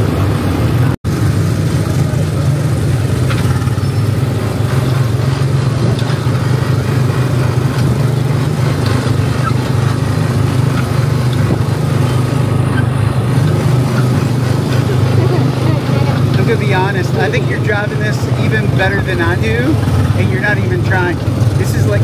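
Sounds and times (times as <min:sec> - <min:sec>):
go-kart engine running: 0:00.0 - 0:22.0.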